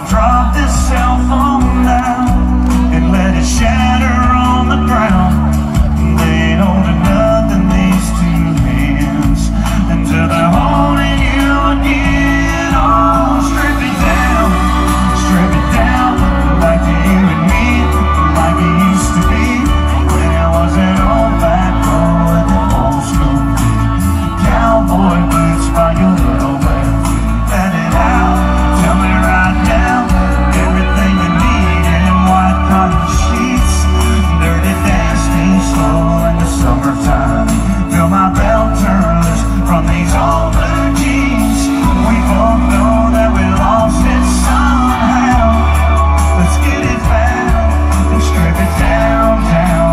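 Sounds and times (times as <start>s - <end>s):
band accompaniment with bass: 0.0s - 49.9s
pop-rock song with singing: 0.0s - 49.9s.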